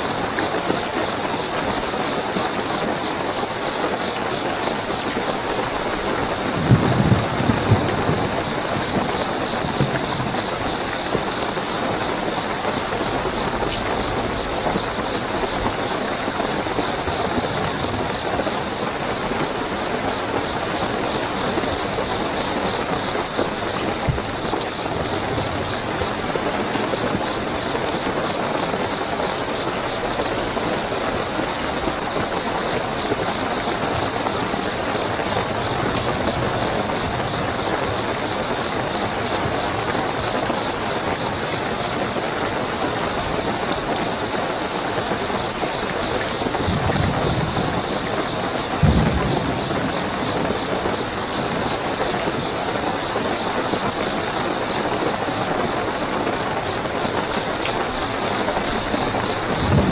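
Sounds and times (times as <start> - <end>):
crickets trilling: 0.0 - 59.9
heavy rainfall: 0.0 - 59.9.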